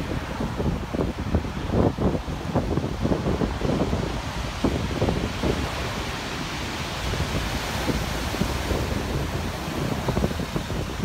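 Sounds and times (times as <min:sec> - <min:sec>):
surf breaking on rocky shore: 0:00.0 - 0:11.0
wind buffeting microphone: 0:00.0 - 0:11.0.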